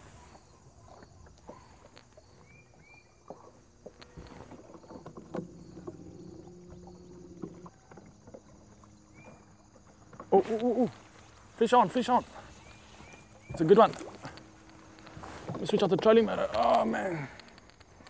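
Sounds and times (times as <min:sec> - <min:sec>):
low hum: 0:00.0 - 0:18.0
water against boat hull: 0:00.0 - 0:18.0.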